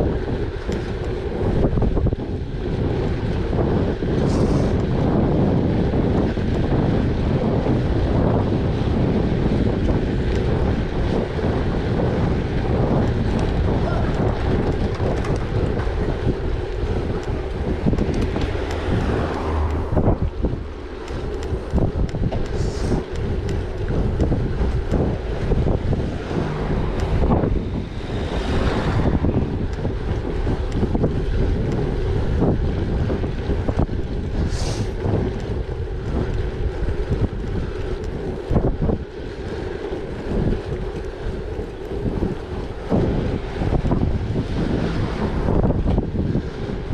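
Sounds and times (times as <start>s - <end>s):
bike rolling over rough gravel: 0.0s - 46.9s
wind buffeting microphone: 0.0s - 46.9s.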